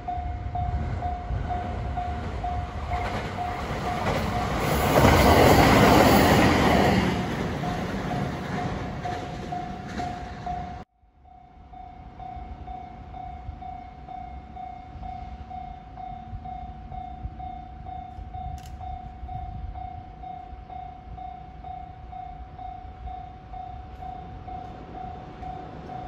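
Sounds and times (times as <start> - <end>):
crossing warning bell pulses: 0.0 - 26.0.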